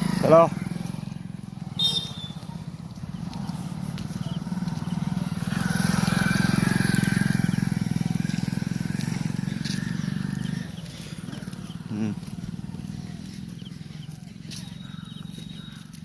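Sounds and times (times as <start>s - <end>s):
motorcycle engine passing: 0.0s - 16.0s.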